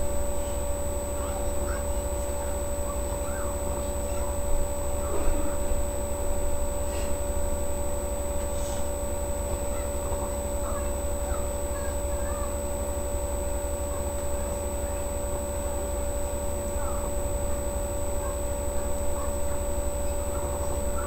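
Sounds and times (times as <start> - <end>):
low electrical hum: 0.0 - 21.0
thin high whine: 0.0 - 21.0.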